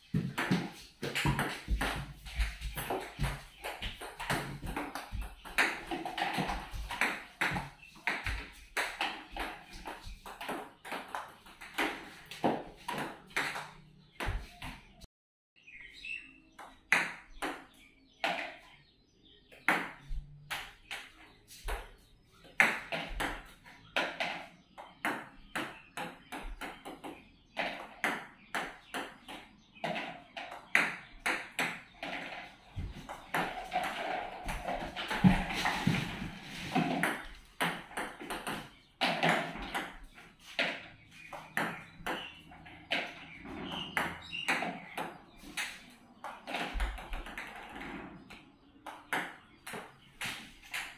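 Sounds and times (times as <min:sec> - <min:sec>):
table tennis ball bouncing: 0:00.1 - 0:14.9, 0:16.6 - 0:18.6, 0:19.6 - 0:47.8, 0:48.8 - 0:50.9.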